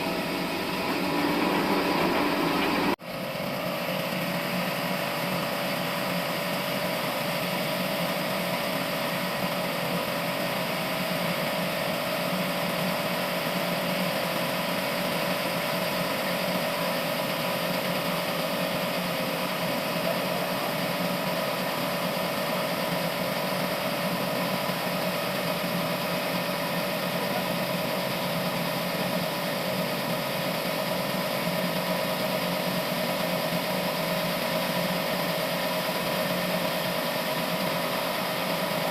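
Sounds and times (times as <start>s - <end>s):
sawmill machinery hum and whine: 0.0s - 38.9s.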